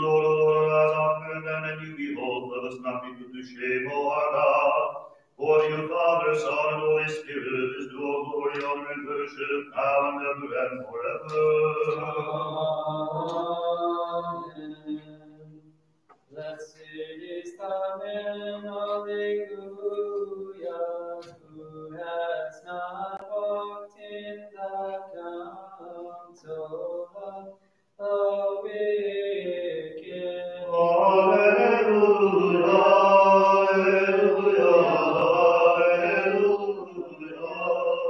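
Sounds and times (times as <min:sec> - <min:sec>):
person chanting: 0:00.0 - 0:15.6, 0:16.3 - 0:38.0.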